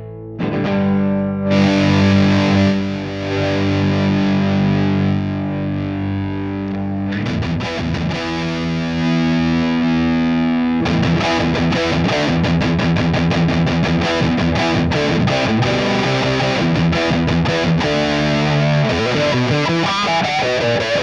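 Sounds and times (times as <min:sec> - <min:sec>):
distorted electric guitar strumming: 0:00.0 - 0:21.0.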